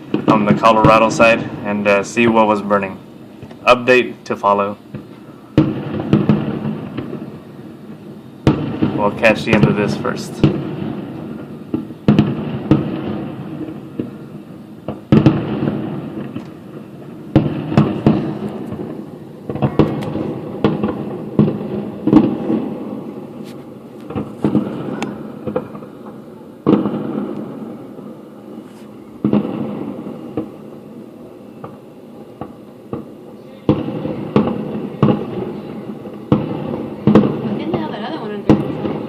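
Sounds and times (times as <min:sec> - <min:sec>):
firework crackling pops: 0:00.0 - 0:39.0
firework shells booming: 0:00.0 - 0:39.0.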